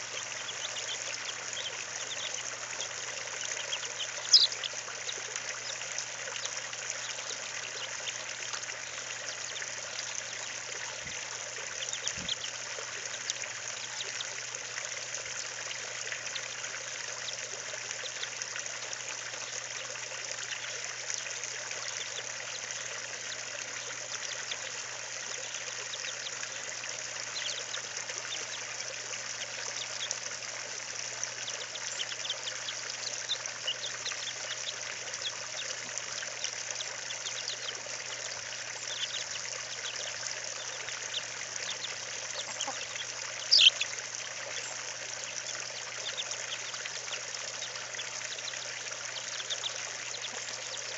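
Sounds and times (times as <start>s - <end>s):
faint high chick peeps: 0.0s - 14.5s, 19.6s - 26.4s, 27.2s - 30.2s, 31.2s - 50.9s.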